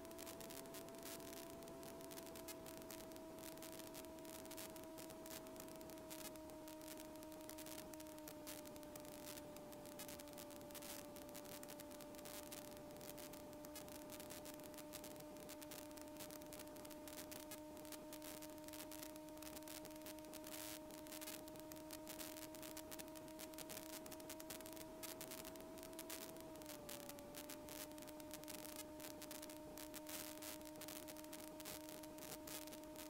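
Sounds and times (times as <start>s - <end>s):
faint electrical hum: 0.0s - 33.0s
light hiss: 0.0s - 33.0s.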